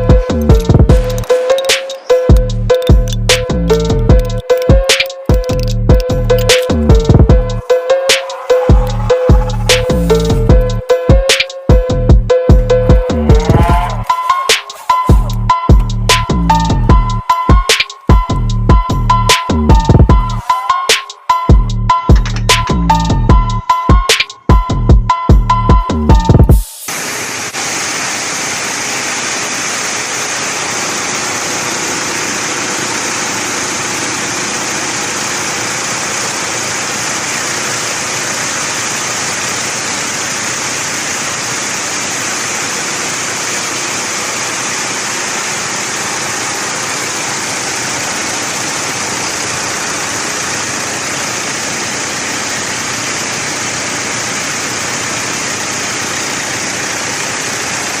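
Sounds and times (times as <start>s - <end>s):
diesel engine running steadily: 0.0s - 20.5s, 27.6s - 58.0s.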